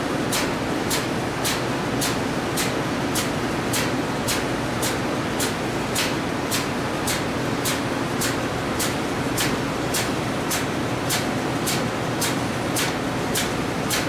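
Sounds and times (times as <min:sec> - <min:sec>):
engine room machinery drone: 0:00.0 - 0:14.0.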